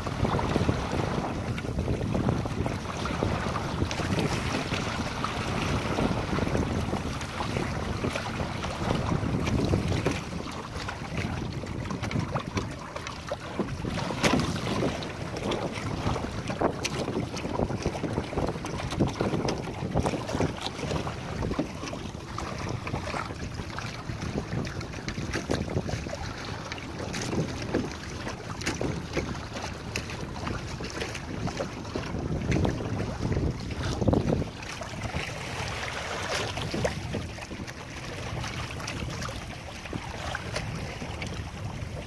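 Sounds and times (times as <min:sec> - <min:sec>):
water splashing against hull: 0:00.0 - 0:42.0
wind buffeting microphone: 0:00.0 - 0:42.0.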